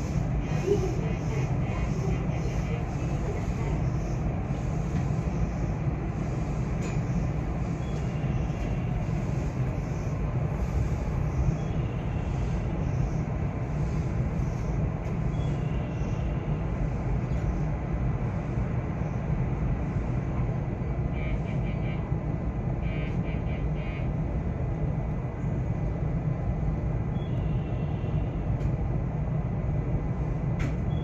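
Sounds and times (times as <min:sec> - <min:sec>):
electric train interior rumble: 0:00.0 - 0:31.0.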